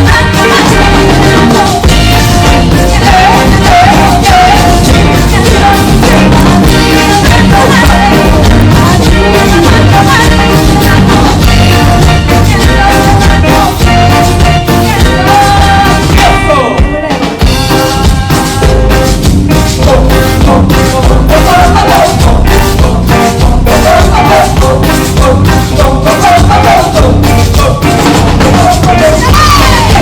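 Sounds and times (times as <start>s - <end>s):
steady drum beat: 0.0s - 30.0s
upbeat band music: 0.0s - 30.0s.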